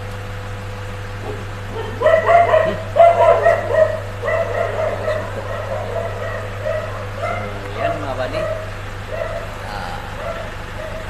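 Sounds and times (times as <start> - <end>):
steady low hum: 0.0 - 11.0
dog barking: 1.2 - 11.0.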